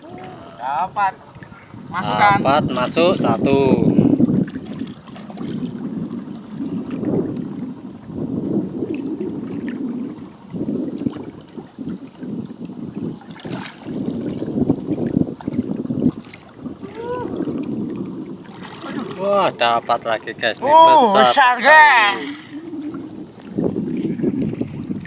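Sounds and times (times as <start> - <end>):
water sloshing and lapping: 0.0 - 25.0
wind buffeting microphone: 0.0 - 25.0.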